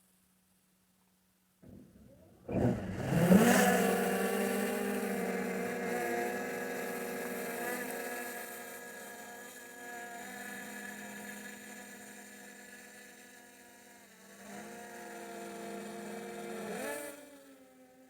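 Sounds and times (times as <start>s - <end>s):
drone motors buzzing whine: 1.6s - 18.0s.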